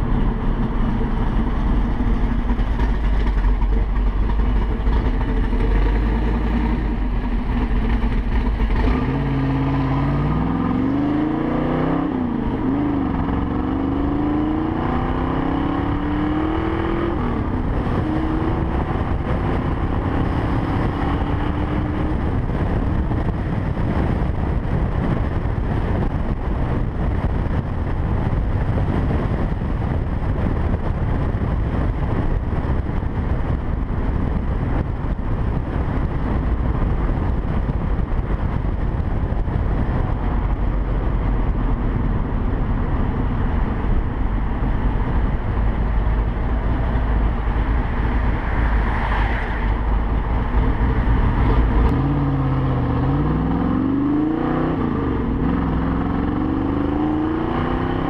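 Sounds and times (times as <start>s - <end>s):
car engine accelerating: 0.0s - 58.0s
wind and road noise: 0.0s - 58.0s.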